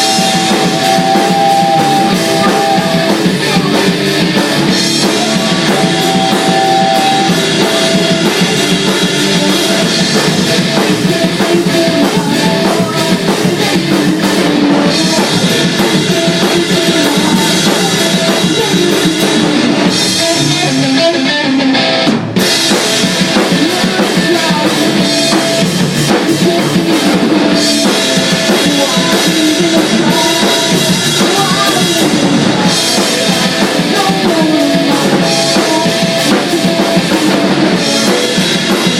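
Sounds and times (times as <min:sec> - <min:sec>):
bass drum and snare: 0:00.0 - 0:20.8, 0:21.8 - 0:38.9
rock band playing: 0:00.0 - 0:38.9.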